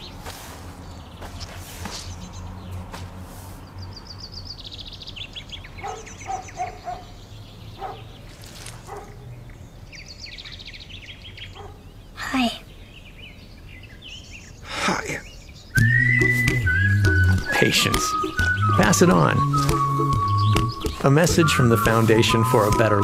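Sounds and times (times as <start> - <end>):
songbirds trilling: 0.0 - 23.0.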